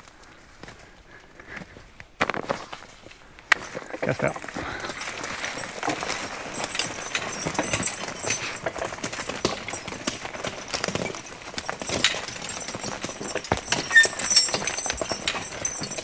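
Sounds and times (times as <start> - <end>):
horse hooves clopping: 2.6 - 16.0.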